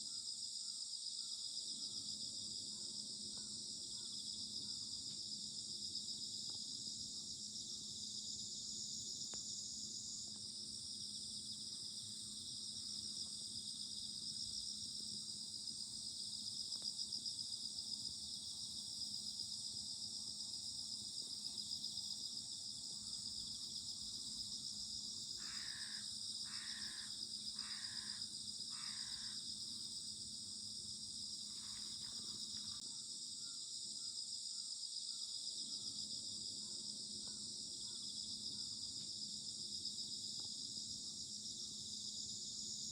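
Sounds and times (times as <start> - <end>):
insects trilling: 0.0 - 42.9.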